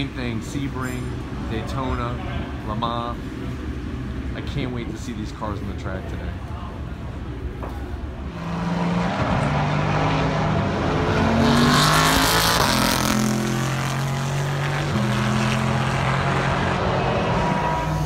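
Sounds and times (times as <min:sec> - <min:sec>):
race car engine: 0:00.0 - 0:18.0.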